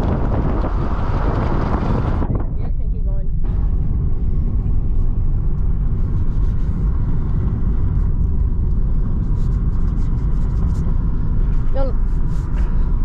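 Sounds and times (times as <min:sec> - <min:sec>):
car driving rumble from inside: 0:00.0 - 0:13.0.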